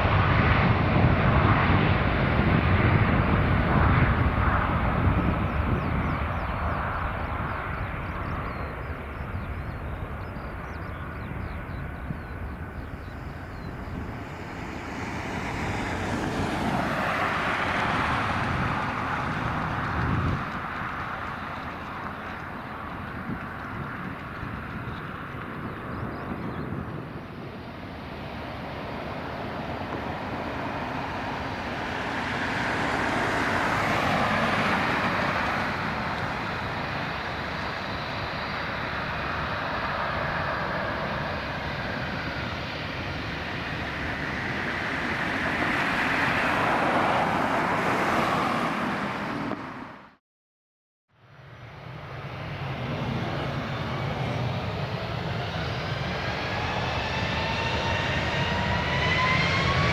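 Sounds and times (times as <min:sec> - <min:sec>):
jet engines rushing: 0:00.0 - 0:50.0, 0:51.5 - 0:59.9.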